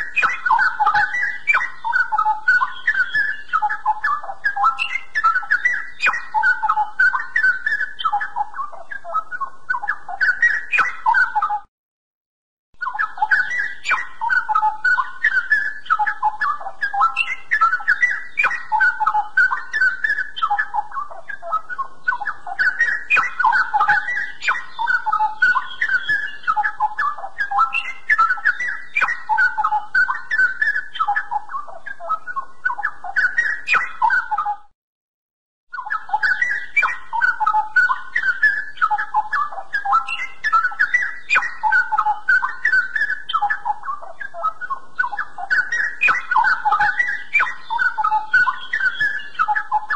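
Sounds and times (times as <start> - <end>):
bird warbling song: 0.0 - 11.7, 12.8 - 34.7, 35.7 - 49.9.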